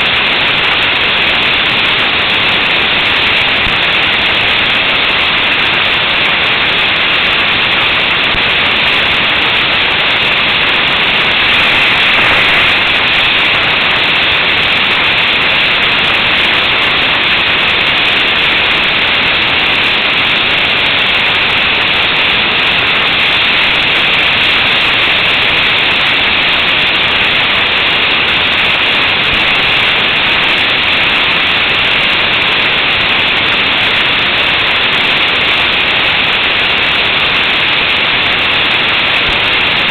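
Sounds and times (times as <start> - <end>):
road noise: 0.0 - 34.7
wind rushing over microphone: 0.0 - 39.9.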